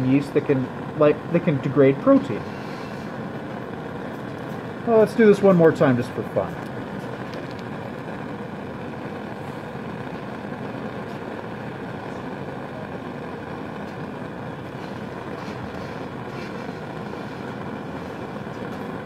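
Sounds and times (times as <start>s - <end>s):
faint air handling hum: 0.0s - 19.0s
gas flame rushing: 0.0s - 19.0s.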